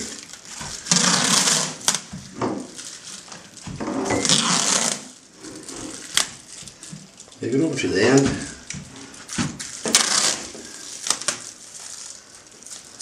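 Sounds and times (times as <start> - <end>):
tape peeling off roll: 0.0 - 7.4, 8.1 - 13.0.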